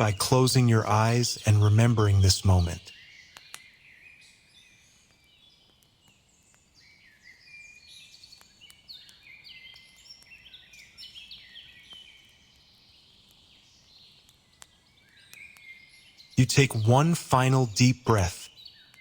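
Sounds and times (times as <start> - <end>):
birds chirping: 0.0 - 5.5, 6.1 - 19.0.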